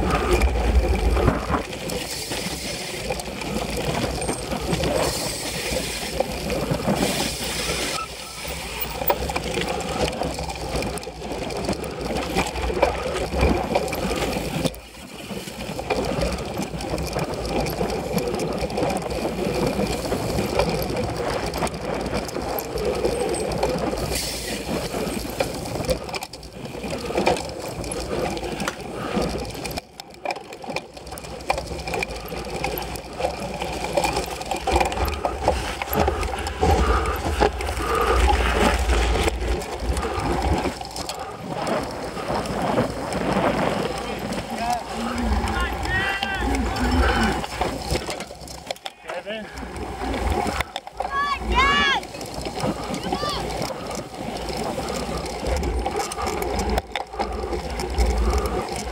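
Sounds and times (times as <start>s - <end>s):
bike chain and frame rattling: 0.0s - 58.9s
knobby tyres on dirt: 0.0s - 58.9s.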